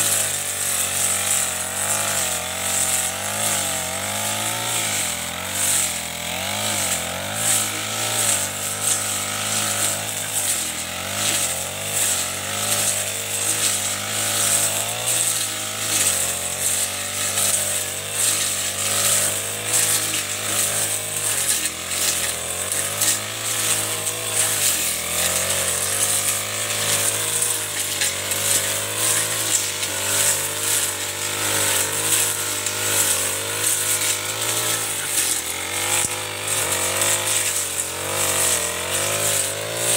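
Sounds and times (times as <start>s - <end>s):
brush cutter engine running: 0.0s - 39.9s
swishes of cut stems: 0.0s - 39.9s.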